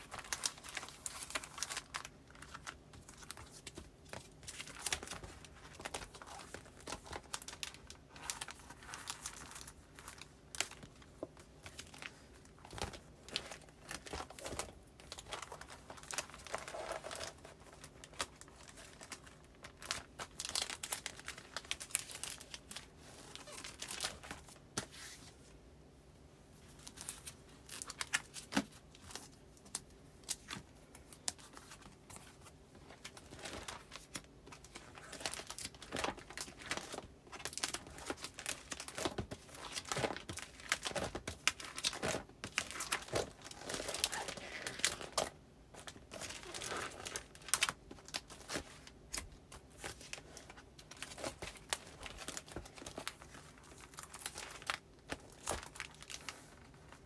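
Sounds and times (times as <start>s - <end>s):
paper rustling and crinkling: 0.0s - 25.6s, 26.5s - 57.0s.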